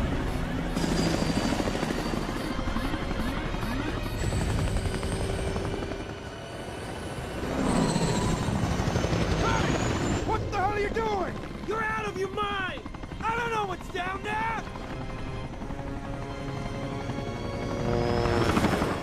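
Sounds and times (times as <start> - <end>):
helicopter rotor chop: 0.0 - 19.0
music: 0.0 - 19.0.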